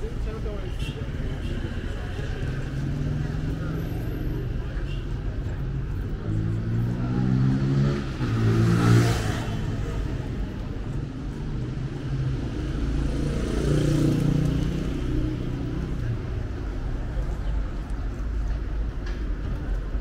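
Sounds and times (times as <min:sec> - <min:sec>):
vehicle engines accelerating: 0:00.0 - 0:20.0.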